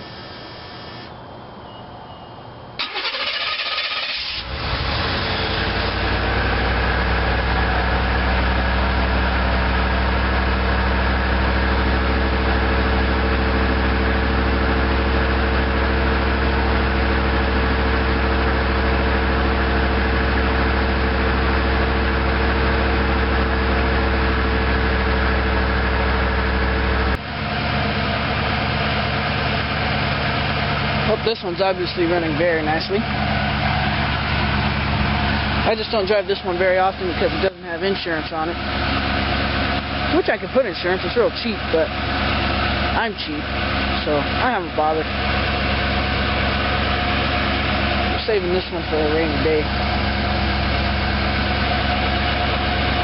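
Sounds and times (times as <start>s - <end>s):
car engine idling: 0.0s - 1.1s, 2.6s - 53.0s.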